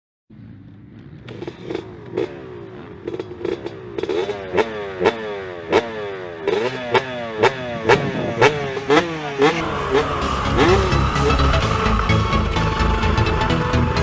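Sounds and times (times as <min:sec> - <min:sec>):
dirt bike engine revving: 0:00.3 - 0:13.2.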